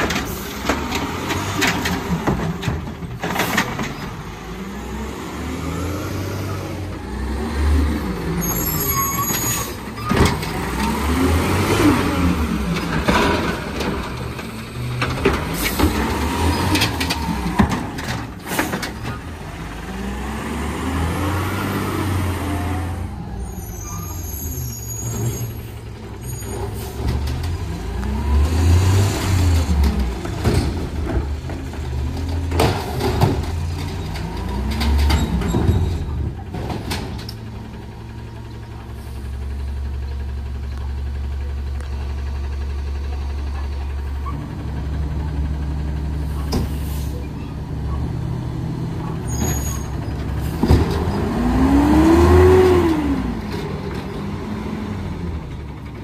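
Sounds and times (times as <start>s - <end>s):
garbage truck engine revving: 0.0s - 41.2s, 42.2s - 56.0s
engine humming: 0.0s - 56.0s.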